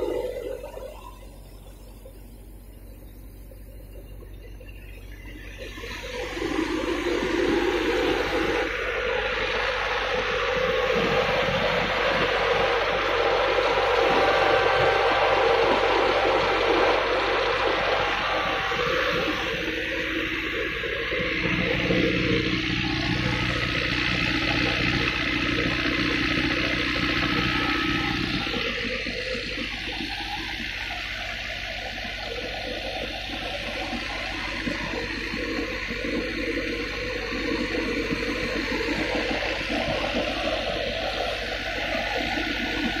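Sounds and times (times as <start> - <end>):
tractor engine drone: 0.0 - 43.0
thresher rushing whir: 5.2 - 43.0.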